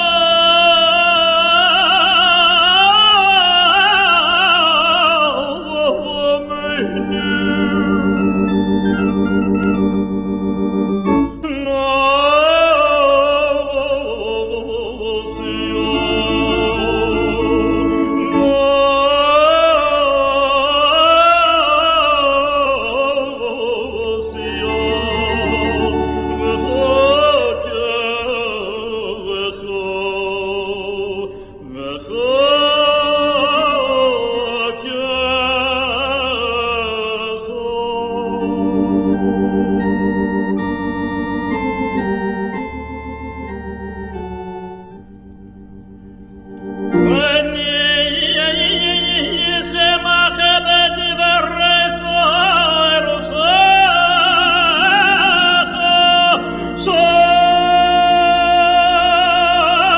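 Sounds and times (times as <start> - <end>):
man chanting operatic prayer: 0.0 - 8.5, 11.3 - 38.6, 47.0 - 59.9
organ chords: 0.0 - 59.9.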